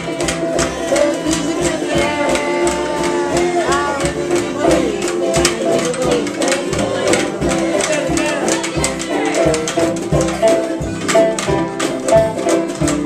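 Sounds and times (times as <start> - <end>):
acoustic string band playing: 0.0 - 13.0
steady percussive beat: 0.0 - 13.0.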